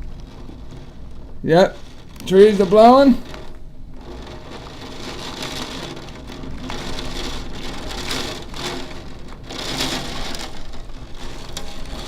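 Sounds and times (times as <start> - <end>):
wind gusting through trees: 0.0 - 12.0
wind rumble on microphone: 0.0 - 12.0.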